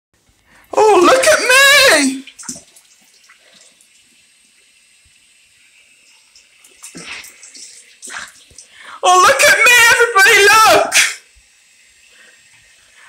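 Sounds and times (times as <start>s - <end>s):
water trickling in a sink: 0.3s - 10.1s, 11.0s - 13.0s.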